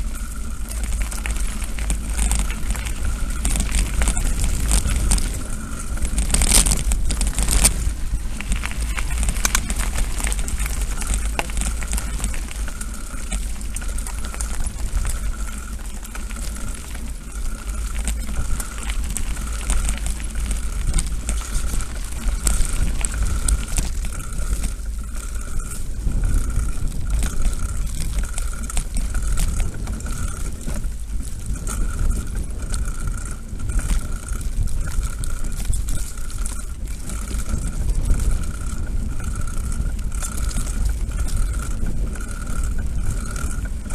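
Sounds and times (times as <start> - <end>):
rattling clicks from bumpy ground: 0.0 - 43.9
wind and ride vibration rumble: 0.0 - 43.9.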